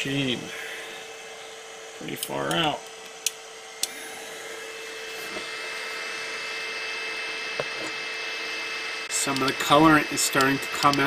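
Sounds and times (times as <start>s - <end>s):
high whine: 0.0s - 11.0s
printer fans and motors whirring: 0.0s - 11.0s.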